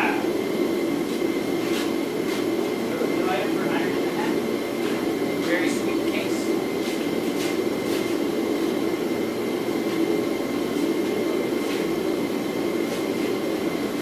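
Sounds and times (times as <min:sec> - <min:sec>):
thin high hum: 0:00.0 - 0:14.0.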